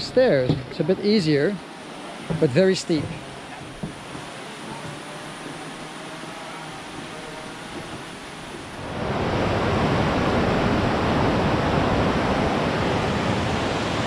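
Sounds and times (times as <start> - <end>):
waterfall rushing: 1.2 - 14.0.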